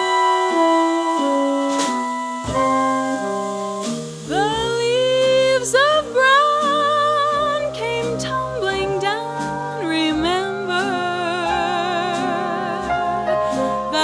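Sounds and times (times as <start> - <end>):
jazz orchestra chords: 0.0 - 14.0
lead line with vibrato: 0.0 - 14.0.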